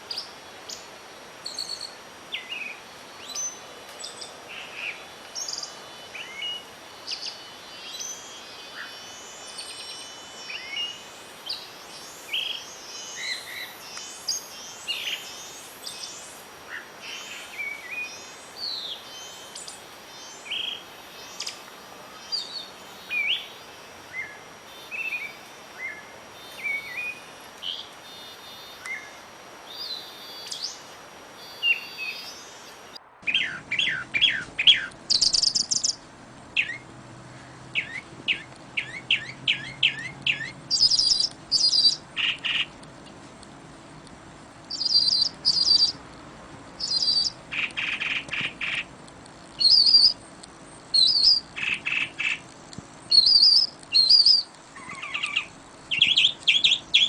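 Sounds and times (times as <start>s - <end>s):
wild birds chirping and trilling: 0.0s - 42.9s, 44.7s - 46.0s, 46.8s - 57.0s
faint background hiss: 0.0s - 57.0s.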